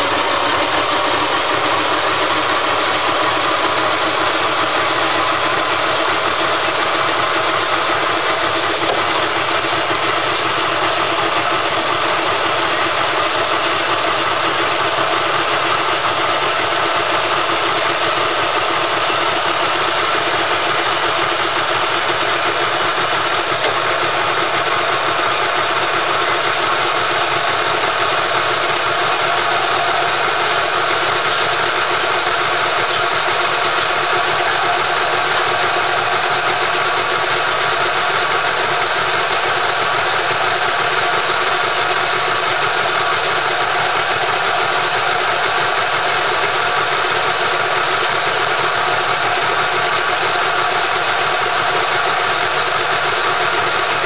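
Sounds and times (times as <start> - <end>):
metal lathe running: 0.0 - 54.0.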